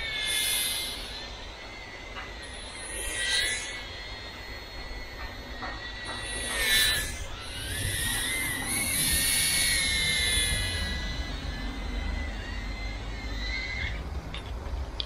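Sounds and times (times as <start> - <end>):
drone propeller whine: 0.0 - 15.0.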